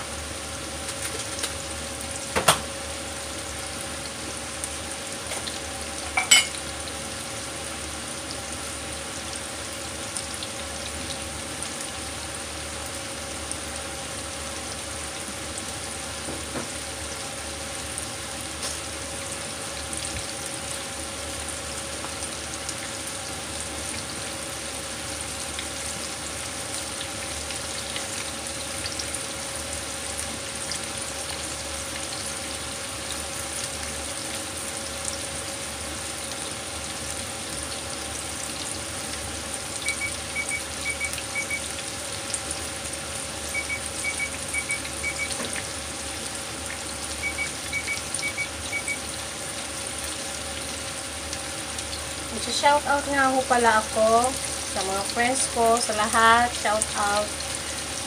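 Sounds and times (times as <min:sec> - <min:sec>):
chicken frying in hot oil: 0:00.0 - 0:58.0.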